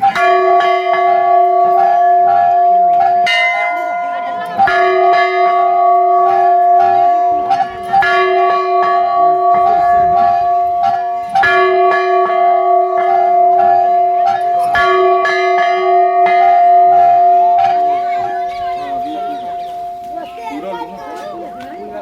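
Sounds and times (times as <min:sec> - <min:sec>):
temple bell ringing: 0:00.0 - 0:22.0.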